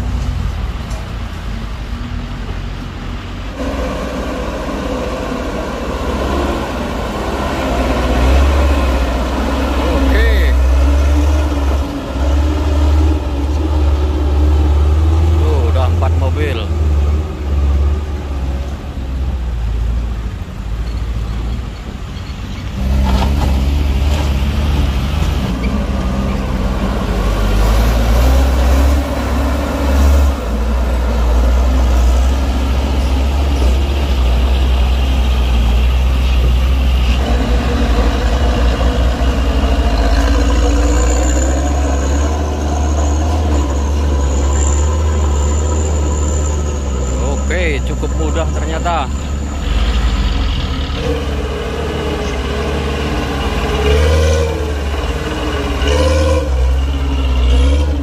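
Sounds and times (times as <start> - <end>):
truck engines running hard: 0.0 - 58.0.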